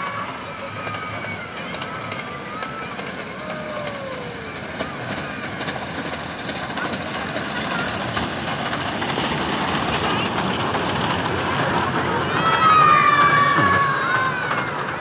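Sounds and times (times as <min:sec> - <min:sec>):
miniature train running on track: 0:00.0 - 0:15.0.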